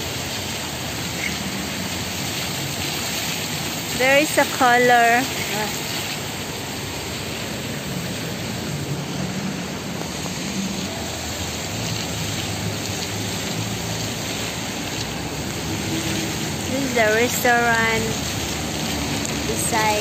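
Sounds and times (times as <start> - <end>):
fountain water splashing on stone: 0.0 - 20.0.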